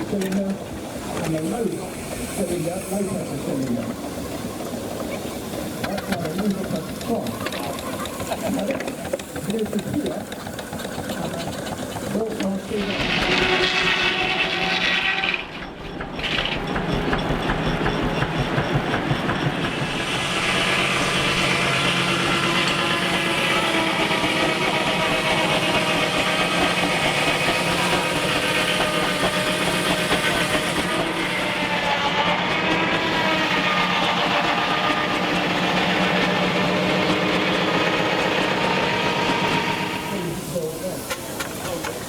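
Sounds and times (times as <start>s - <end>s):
steam traction engine running: 0.0s - 42.0s.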